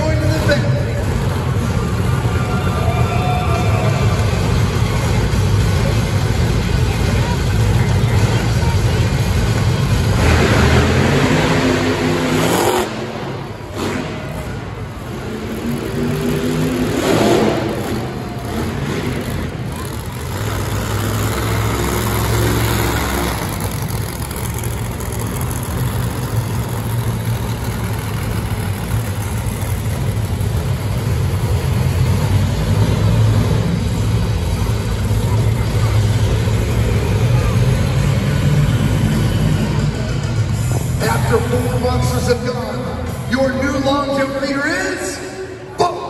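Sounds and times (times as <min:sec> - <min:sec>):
monster truck engines revving: 0:00.0 - 0:46.0.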